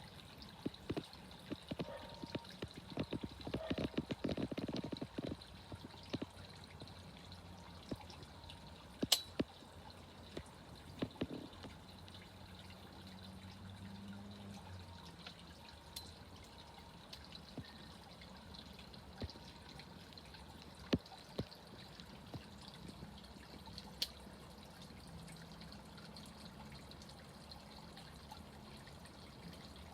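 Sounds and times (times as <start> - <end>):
fountain water splashing and dripping: 0.0 - 29.9.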